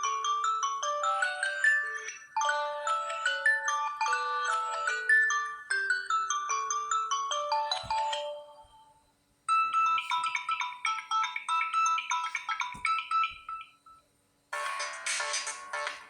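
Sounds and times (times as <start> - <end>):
phone ringtone melodies: 0.0 - 14.0.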